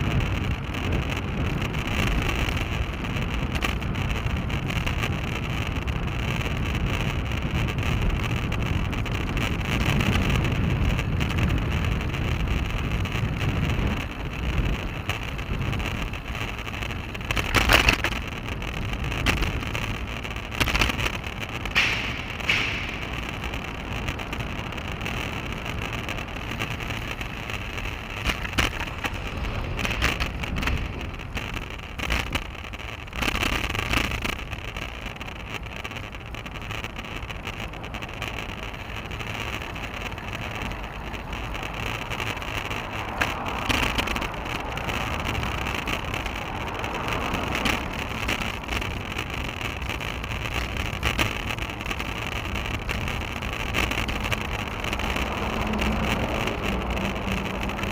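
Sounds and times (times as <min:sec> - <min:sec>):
wind and road rumble: 0:00.0 - 0:57.9.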